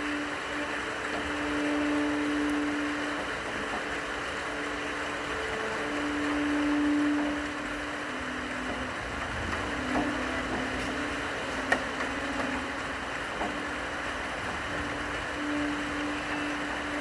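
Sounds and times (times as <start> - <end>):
low cello notes: 0.0 - 17.0
steady rain hiss: 0.0 - 17.0.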